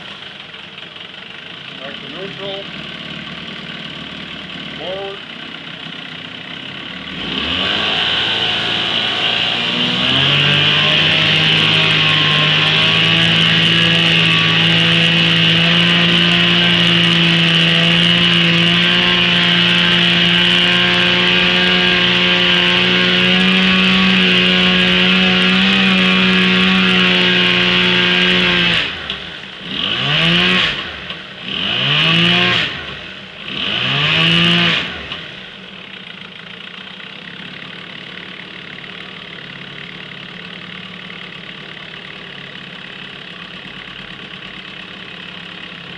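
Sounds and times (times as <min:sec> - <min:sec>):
outboard motor revving: 0:00.0 - 0:45.9.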